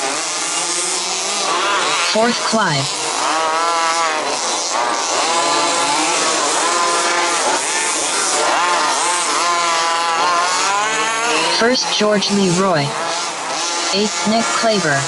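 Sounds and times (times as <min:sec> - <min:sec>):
remote-control buggy engines racing: 0:00.0 - 0:15.0.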